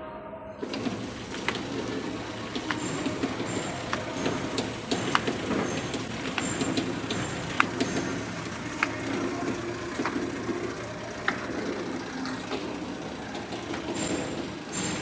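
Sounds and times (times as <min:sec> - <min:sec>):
packing machine running: 0:00.6 - 0:15.0
sharp mechanical clicks: 0:00.6 - 0:15.0.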